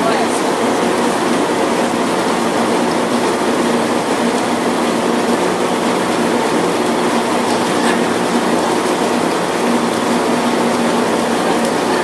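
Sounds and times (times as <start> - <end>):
boat machinery running: 0.0 - 12.0.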